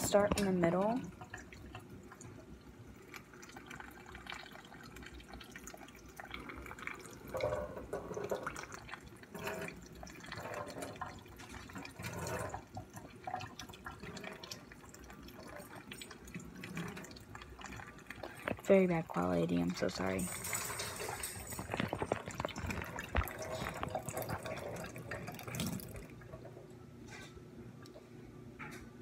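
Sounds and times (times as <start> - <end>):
faucet running: 0.0 - 26.4
water splashing into a sink: 0.0 - 26.6.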